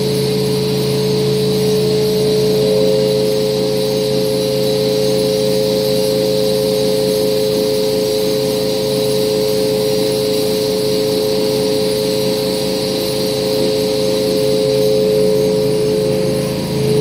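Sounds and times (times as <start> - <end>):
pressure washer motor whine: 0.0 - 17.0
water jet spraying onto rug: 0.0 - 17.0.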